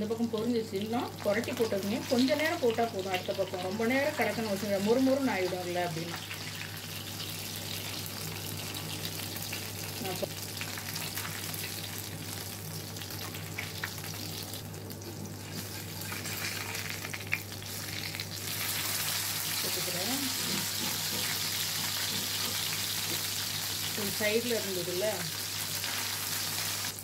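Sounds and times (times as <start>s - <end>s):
fish sizzling in hot oil: 0.0s - 27.0s.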